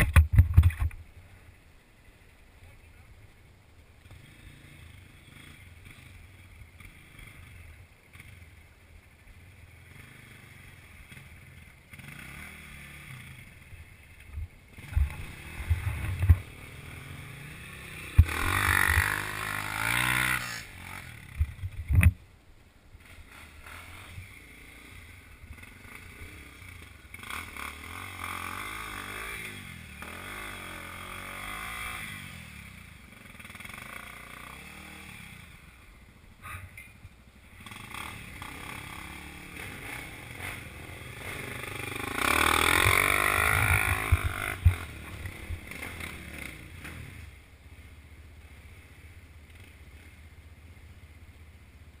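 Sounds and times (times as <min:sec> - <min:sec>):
dirt bike engines running low: 0:00.0 - 0:52.0
dirt bike revving past: 0:04.0 - 0:21.8, 0:23.0 - 0:36.8, 0:37.4 - 0:50.3.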